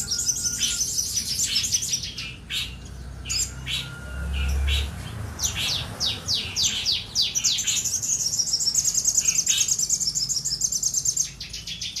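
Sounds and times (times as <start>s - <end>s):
songbird whistling and trilling: 0.0s - 12.0s.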